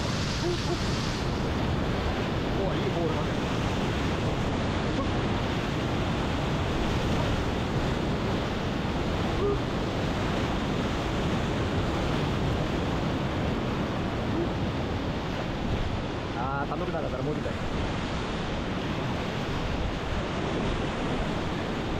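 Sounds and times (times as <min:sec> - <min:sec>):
whitewater rapids rushing: 0:00.0 - 0:17.8.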